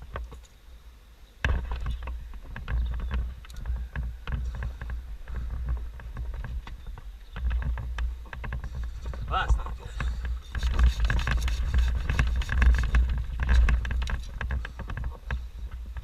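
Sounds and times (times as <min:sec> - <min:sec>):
knocks clicks and scrapes: 0:01.4 - 0:16.0.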